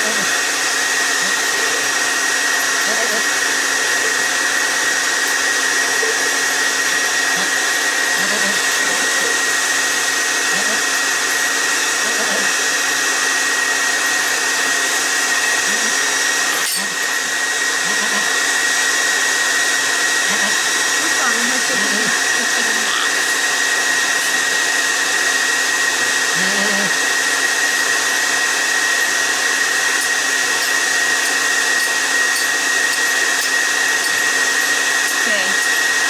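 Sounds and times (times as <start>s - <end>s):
electric fan whirring: 0.0s - 36.0s.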